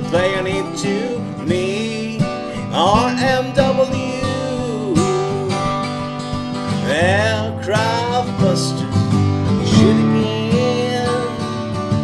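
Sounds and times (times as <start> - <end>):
person singing: 0.0 - 6.0, 6.8 - 9.0, 9.6 - 11.6
acoustic guitars playing folk song: 0.0 - 12.0.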